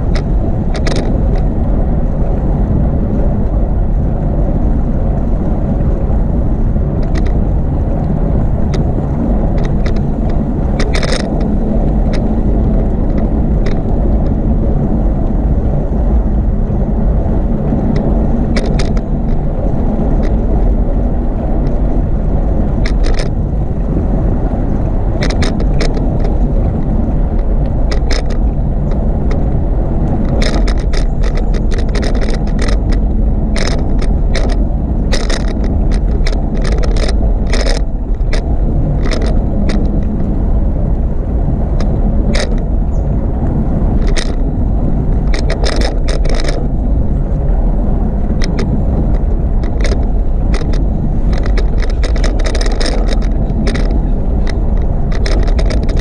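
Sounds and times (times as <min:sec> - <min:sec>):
bicycle rattles and clicks: 0:00.0 - 0:56.0
bicycle rolling rumble: 0:00.0 - 0:56.0
wind: 0:00.0 - 0:56.0.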